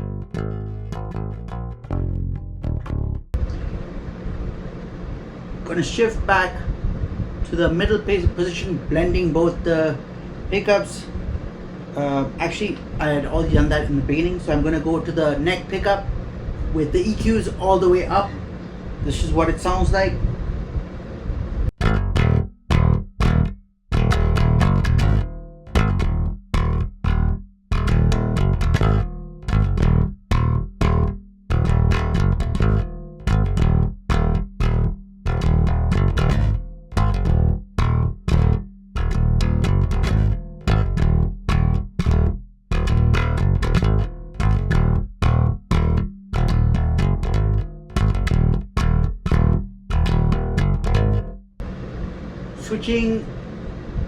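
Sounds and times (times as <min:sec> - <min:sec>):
electric bass short sharp notes: 0:00.0 - 0:03.8, 0:05.7 - 0:20.6, 0:21.8 - 0:51.6.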